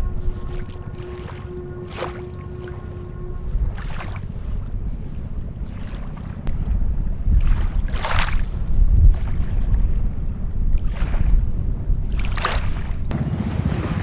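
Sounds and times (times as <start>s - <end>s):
water splashing at shore: 0.0s - 14.0s
wind rumble on microphone: 0.0s - 14.0s.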